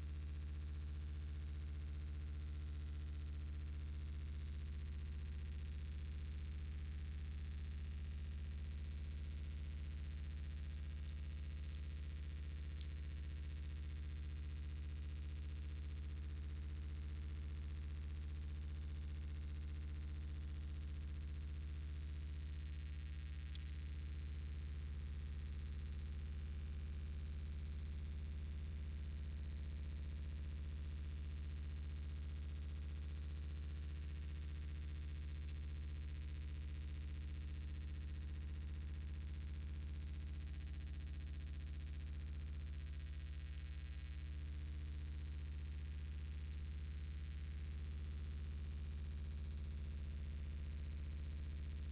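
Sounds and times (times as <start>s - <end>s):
low electrical hum: 0.0s - 51.9s.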